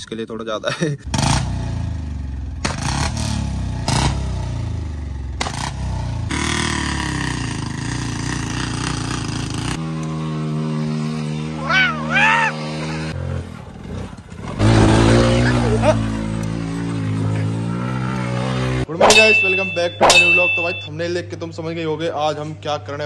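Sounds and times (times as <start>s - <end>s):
motorcycle engines revving: 1.1s - 20.9s.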